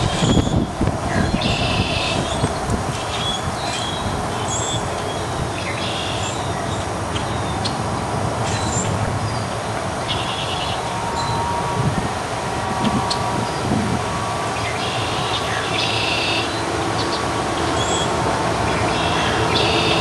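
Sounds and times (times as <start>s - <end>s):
steady rumbling noise: 0.0s - 20.0s.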